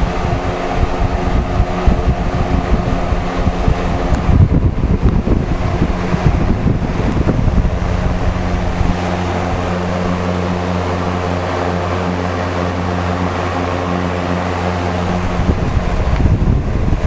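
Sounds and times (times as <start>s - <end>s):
box fan whirring: 0.0s - 17.0s
wind buffeting microphone: 0.0s - 17.0s.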